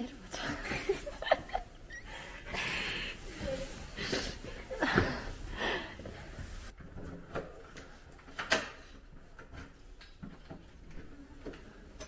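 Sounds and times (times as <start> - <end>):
handling and shuffling noises: 0.4 - 12.0.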